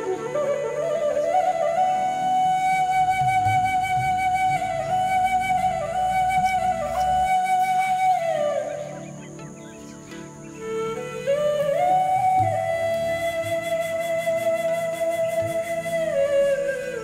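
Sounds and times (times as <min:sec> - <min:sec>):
flute music: 0:00.0 - 0:17.0.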